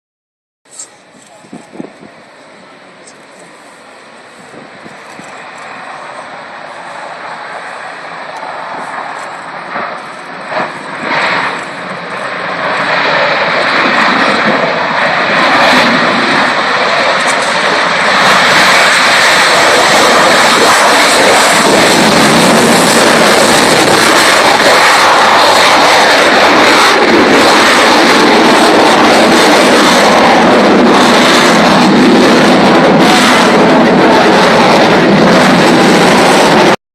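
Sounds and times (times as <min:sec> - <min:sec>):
jet engine roar: 0:00.7 - 0:36.8.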